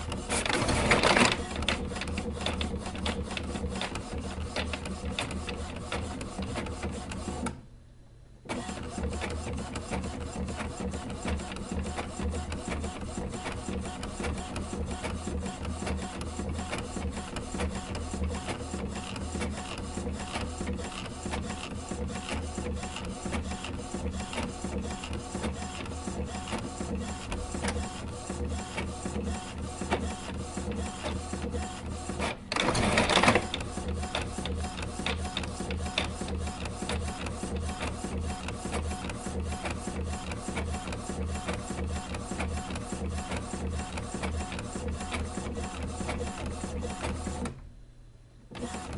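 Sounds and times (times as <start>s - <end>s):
small machine humming and clicking: 0.0s - 7.6s, 8.4s - 47.7s, 48.5s - 48.9s.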